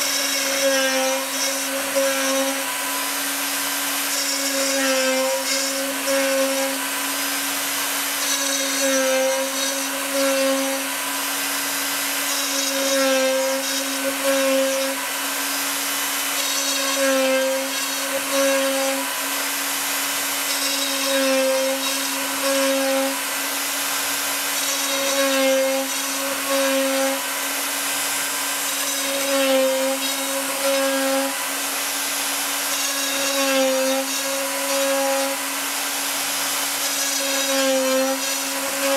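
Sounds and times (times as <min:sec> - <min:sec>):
router motor whine: 0:00.0 - 0:38.9.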